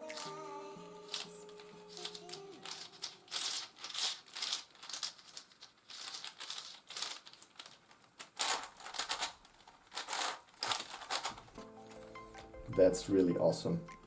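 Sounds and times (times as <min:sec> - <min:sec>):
plastic puzzle clacking and scraping: 0:00.1 - 0:00.3, 0:01.0 - 0:12.6.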